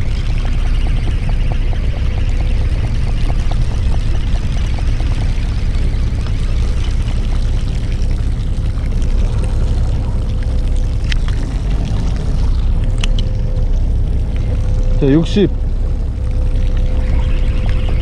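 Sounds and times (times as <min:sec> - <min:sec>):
boat engine running: 0:00.0 - 0:18.0
thin steady whine: 0:00.0 - 0:18.0
water washing around hull: 0:00.0 - 0:18.0.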